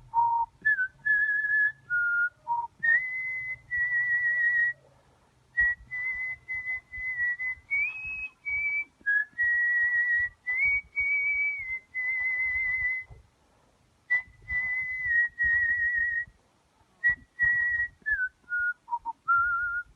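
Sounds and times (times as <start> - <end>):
person whistling a melody: 0.1 - 4.8, 5.6 - 13.2, 14.1 - 16.3, 17.0 - 19.9.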